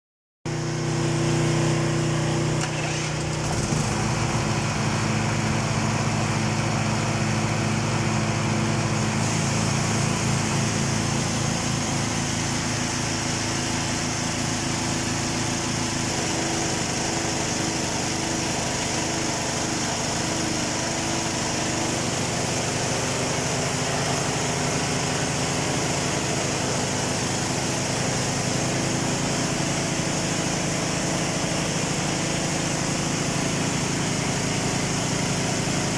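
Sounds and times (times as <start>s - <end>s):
generator engine running: 0.5s - 35.9s.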